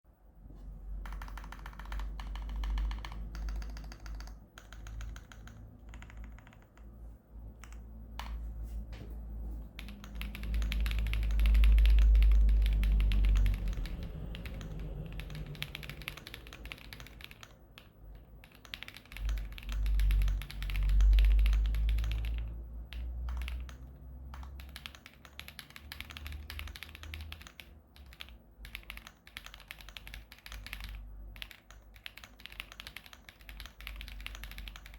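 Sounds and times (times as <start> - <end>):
mechanical keyboard typing: 0.9 - 8.4, 9.7 - 34.9.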